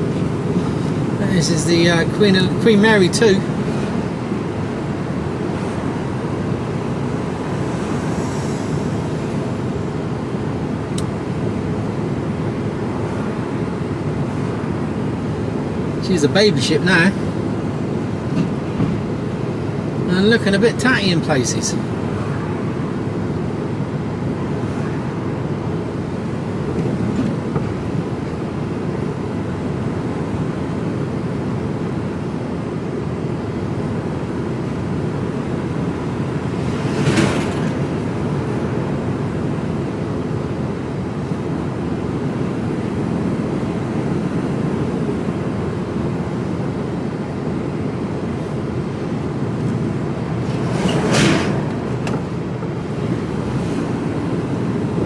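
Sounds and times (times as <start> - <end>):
lorry engine drone: 0.0 - 55.0
road noise: 0.0 - 55.0.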